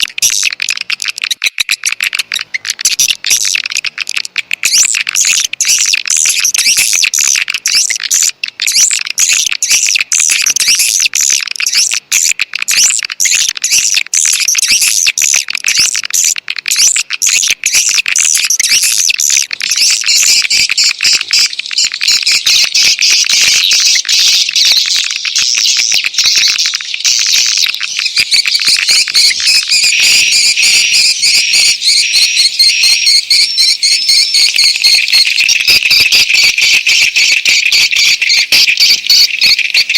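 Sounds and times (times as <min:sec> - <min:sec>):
swiftlets twittering and chirping: 0:00.0 - 0:39.9.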